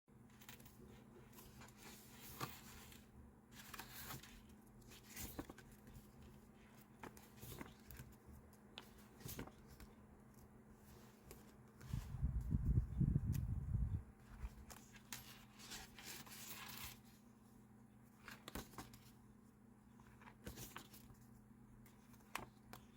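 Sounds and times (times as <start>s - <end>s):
paper and stickers rustling: 0.2s - 13.6s, 14.2s - 17.4s, 18.1s - 19.2s, 19.9s - 22.9s.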